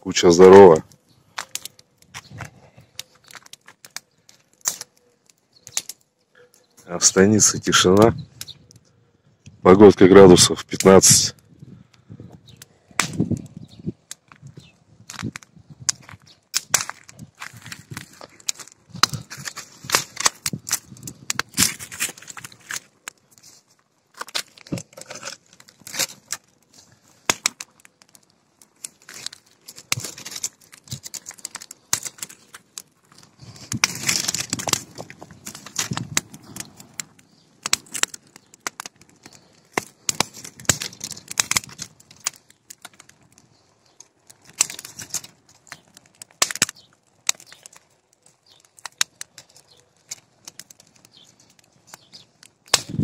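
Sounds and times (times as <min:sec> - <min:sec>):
bonfire crackling and popping: 0:00.0 - 0:53.0.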